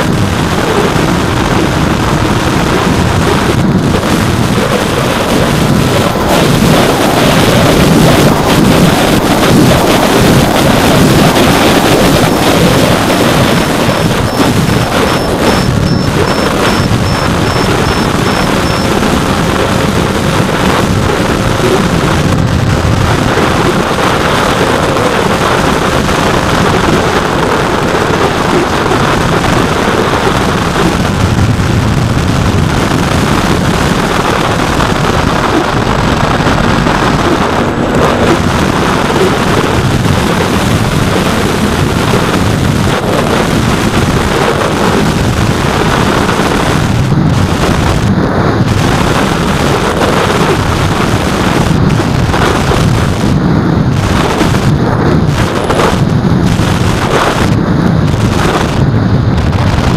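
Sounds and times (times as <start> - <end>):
electric motor and propeller: 0.0 - 59.9
wind rushing over microphone: 0.0 - 59.9.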